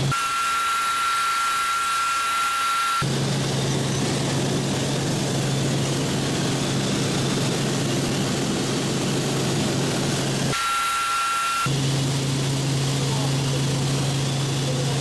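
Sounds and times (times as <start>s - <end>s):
helicopter cabin drone: 0.0s - 15.0s.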